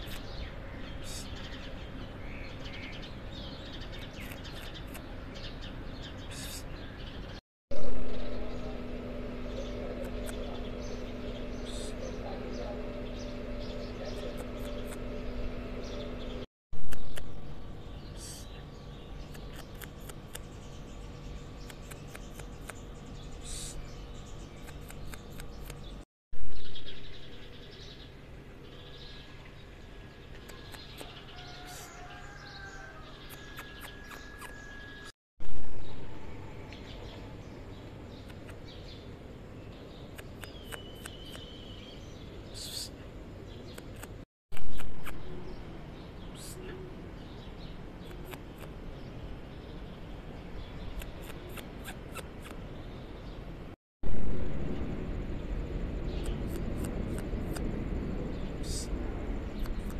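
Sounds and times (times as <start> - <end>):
small birds chirping: 0.0 - 53.7, 54.4 - 59.9
low background hum: 0.0 - 59.9.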